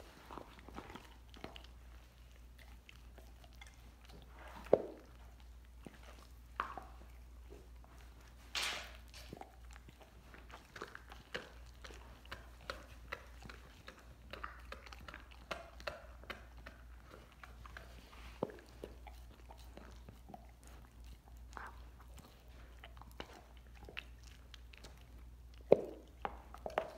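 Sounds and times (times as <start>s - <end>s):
dog chewing meat and bone: 0.0s - 26.9s.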